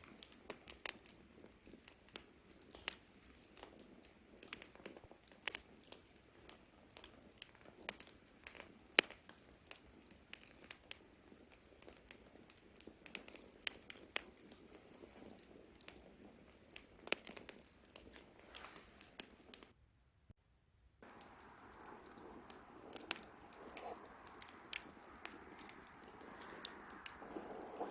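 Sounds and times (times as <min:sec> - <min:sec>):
campfire crackling: 0:00.0 - 0:19.7, 0:21.0 - 0:27.9
soft steady hiss: 0:00.0 - 0:27.9.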